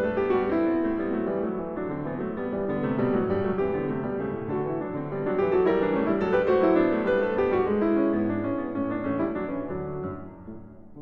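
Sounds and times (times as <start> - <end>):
background piano music: 0.0 - 11.0.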